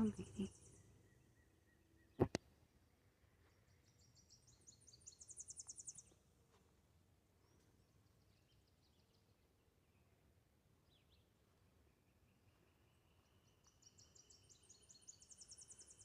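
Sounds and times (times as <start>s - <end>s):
distant bird song: 0.0s - 6.3s, 7.4s - 16.0s.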